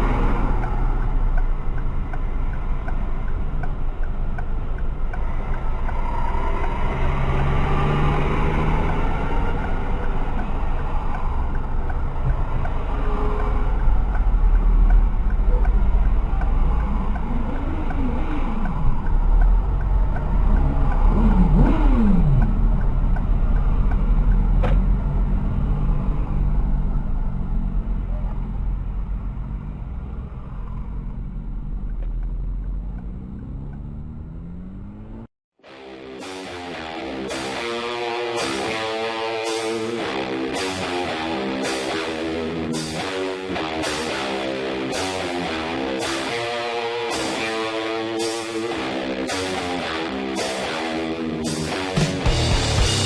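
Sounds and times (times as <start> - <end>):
car driving on road: 0.0 - 53.0.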